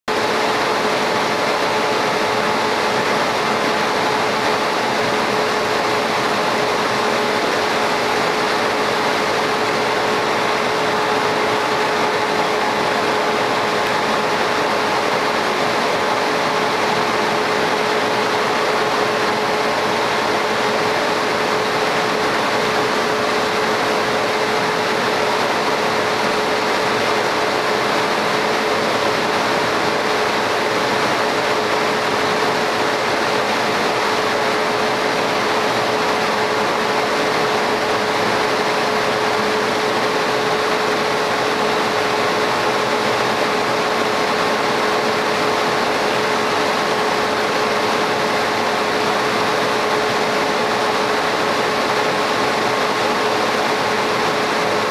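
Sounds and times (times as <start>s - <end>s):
laser cutter fan hiss: 0.2s - 54.9s.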